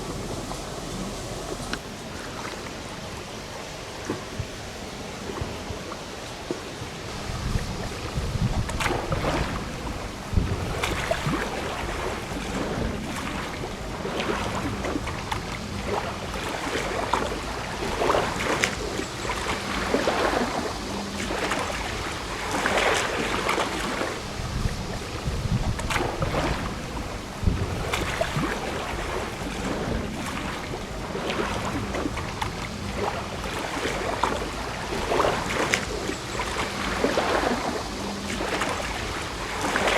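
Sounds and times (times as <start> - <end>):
wind buffeting microphone: 0.0 - 6.1, 6.9 - 39.9
small waves lapping: 0.0 - 39.9.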